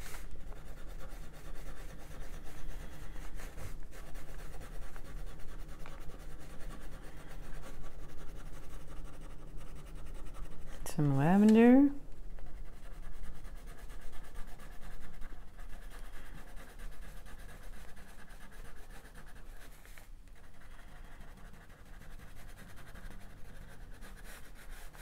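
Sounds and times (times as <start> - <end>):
crayon scribbling on paper: 0.0 - 25.0.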